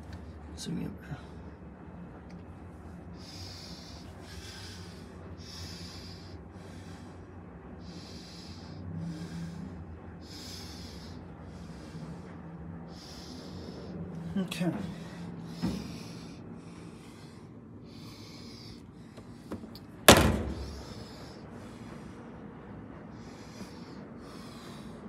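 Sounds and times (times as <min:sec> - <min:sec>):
low hum of machines: 0:00.0 - 0:25.0
person breathing: 0:03.0 - 0:22.4, 0:23.1 - 0:25.0.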